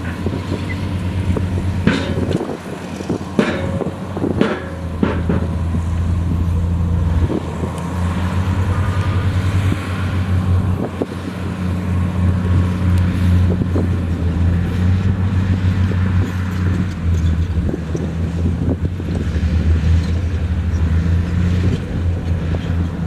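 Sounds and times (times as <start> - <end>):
heavy diesel engine throbbing: 0.0 - 23.0.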